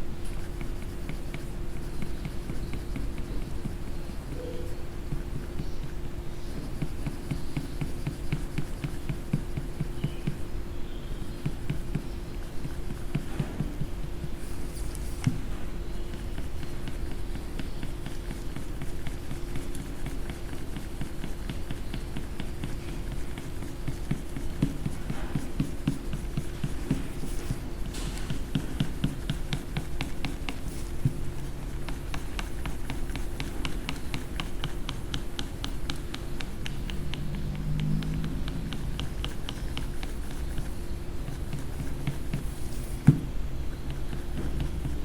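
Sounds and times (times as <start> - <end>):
low steady hum: 0.0 - 45.0
coloring strokes on paper: 0.2 - 10.4, 15.9 - 45.0.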